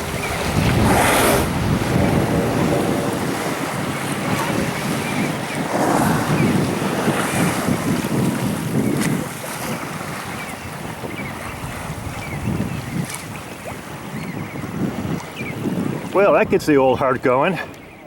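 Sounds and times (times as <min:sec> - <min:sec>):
waves washing around kayak: 0:00.0 - 0:18.0
wind buffeting microphone: 0:00.0 - 0:18.0.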